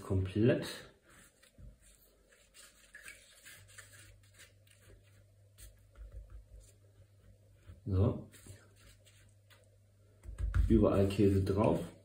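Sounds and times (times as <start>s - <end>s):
hand rustling and scraping pastry: 1.0s - 7.7s, 8.3s - 9.8s, 10.6s - 12.0s.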